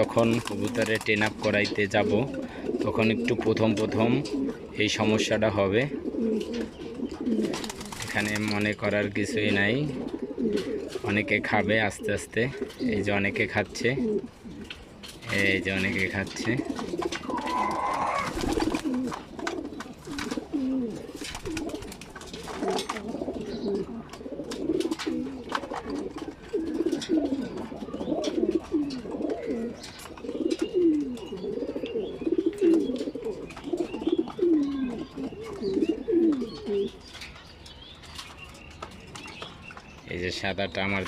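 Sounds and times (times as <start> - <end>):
pigeons cooing: 0.0 - 37.2.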